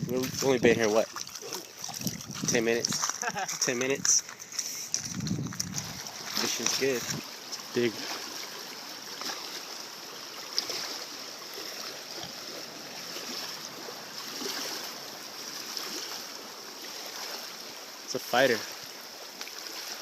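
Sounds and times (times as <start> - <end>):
river water rushing: 0.8 - 5.1, 5.8 - 20.0.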